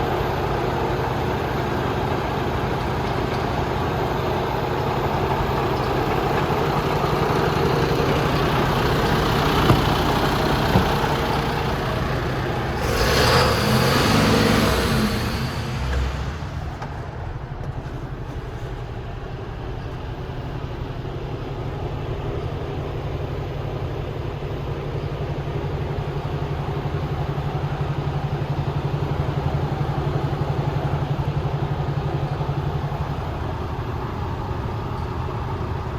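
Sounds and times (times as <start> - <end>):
truck diesel engine running: 0.0 - 20.7, 25.2 - 35.9.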